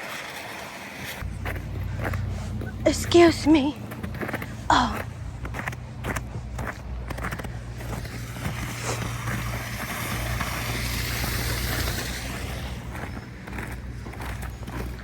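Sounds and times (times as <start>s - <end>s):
vehicle passing: 0.8s - 15.0s.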